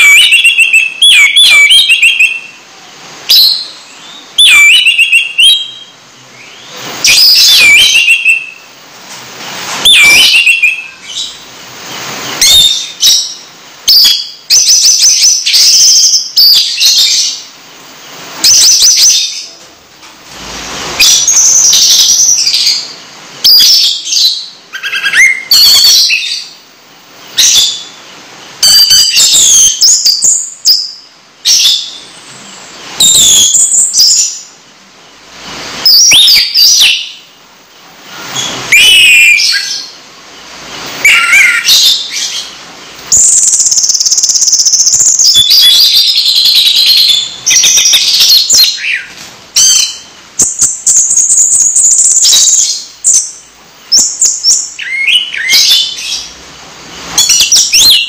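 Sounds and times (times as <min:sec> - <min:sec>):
songbird singing: 0:00.0 - 0:08.9, 0:09.6 - 0:58.0.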